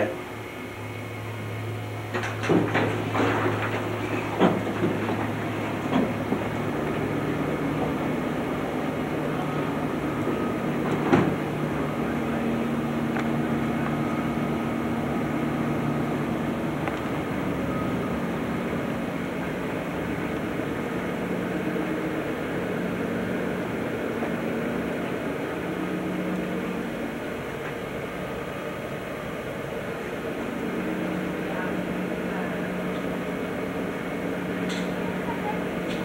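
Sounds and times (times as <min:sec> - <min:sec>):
elevator mechanical hum and rumble: 0:00.0 - 0:36.0.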